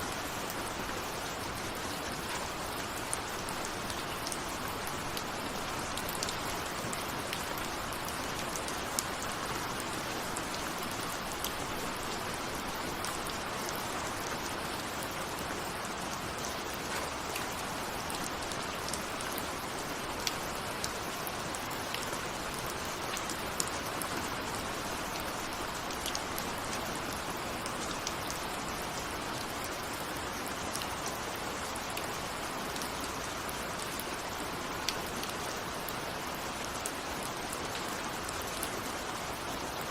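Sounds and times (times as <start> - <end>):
raindrops ticking on a surface: 0.0 - 39.9
steady rain hiss: 0.0 - 39.9.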